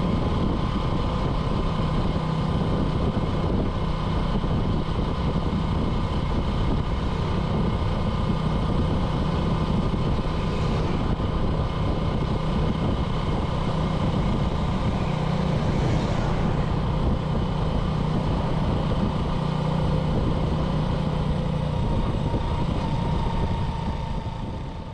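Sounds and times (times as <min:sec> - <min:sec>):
motorbike engine running: 0:00.0 - 0:24.9.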